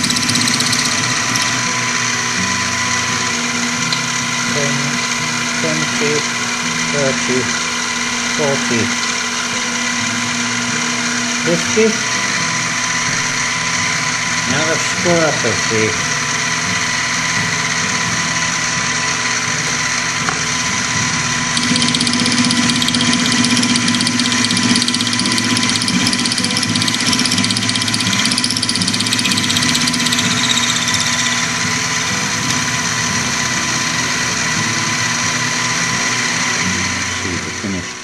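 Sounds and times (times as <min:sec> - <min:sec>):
end mill cutting metal: 0:00.0 - 0:38.0
milling machine motor whine: 0:00.0 - 0:38.0.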